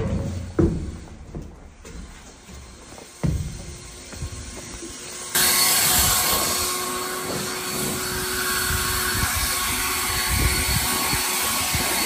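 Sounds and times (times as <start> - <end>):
blower whining and rushing air: 0.0 - 12.0.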